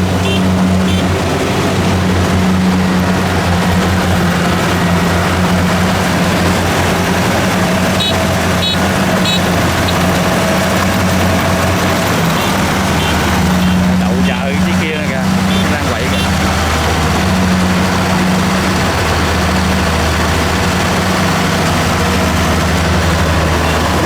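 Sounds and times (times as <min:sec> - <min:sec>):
combine harvester diesel engine: 0:00.0 - 0:24.0
machinery din: 0:00.0 - 0:24.0.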